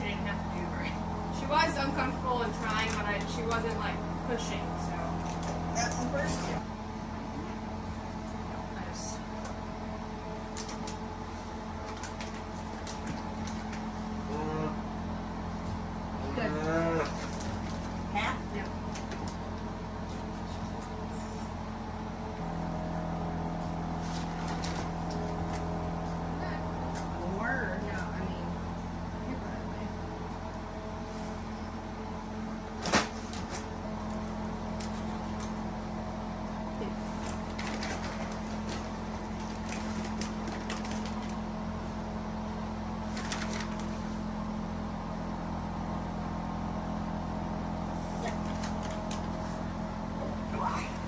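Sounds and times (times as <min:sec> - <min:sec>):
low machine hum: 0:00.0 - 0:51.0.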